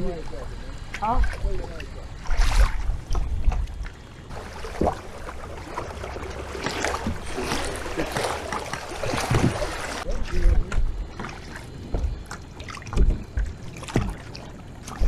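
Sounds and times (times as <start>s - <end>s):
water lapping against kayak hull: 0.0s - 15.0s.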